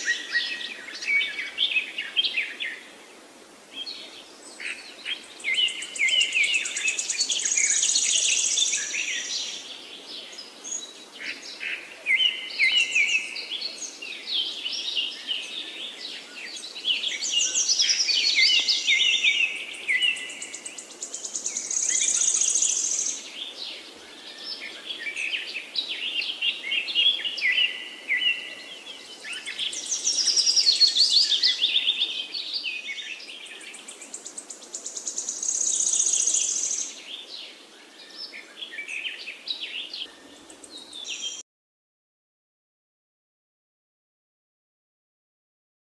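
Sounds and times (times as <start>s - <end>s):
birds singing with chirps and trills: 0.0s - 41.4s.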